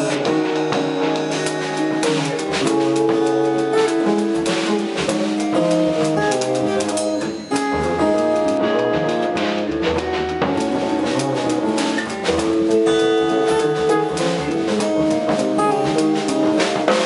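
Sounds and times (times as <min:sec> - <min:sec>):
drum kit with cymbals: 0:00.0 - 0:17.0
electric guitar notes and chords: 0:00.0 - 0:17.0
upright bass: 0:00.0 - 0:17.0.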